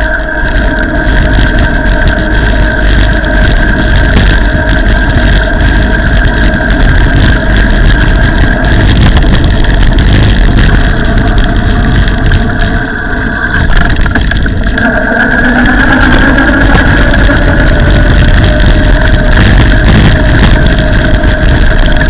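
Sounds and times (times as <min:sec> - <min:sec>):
steady high whine: 0:00.0 - 0:22.0
wind buffeting microphone: 0:00.0 - 0:22.0.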